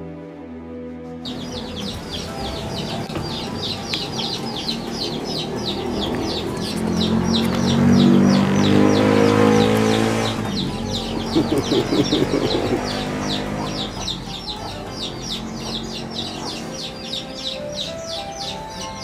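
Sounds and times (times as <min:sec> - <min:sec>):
bird chirping rapidly: 0:01.3 - 0:19.0.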